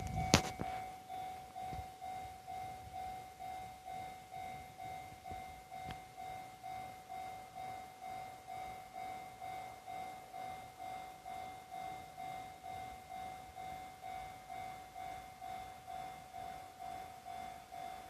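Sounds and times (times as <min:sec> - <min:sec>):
level crossing alarm clanging: 0:00.0 - 0:18.0.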